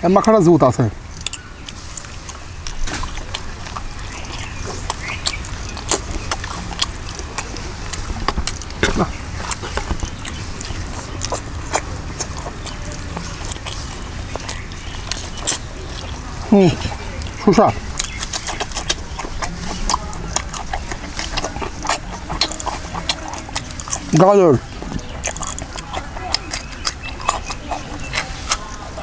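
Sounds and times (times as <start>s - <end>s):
man chewing and smacking: 0.0s - 29.0s.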